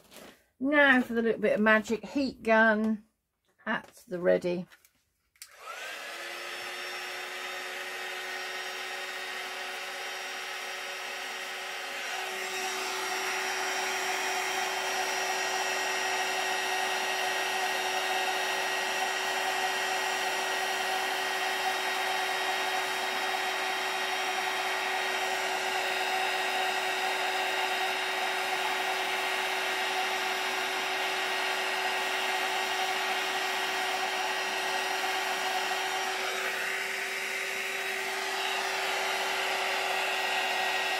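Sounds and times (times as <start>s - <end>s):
heat gun fan humming: 5.4s - 40.9s.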